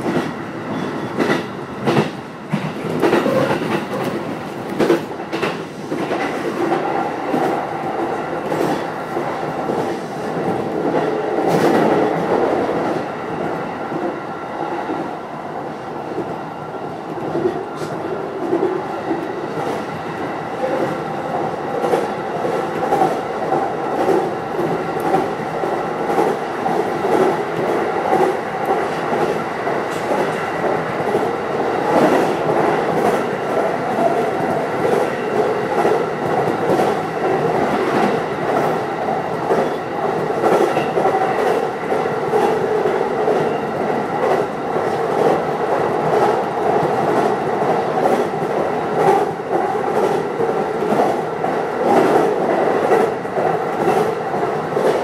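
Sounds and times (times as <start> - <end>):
train rumble and hum: 0.0 - 55.0.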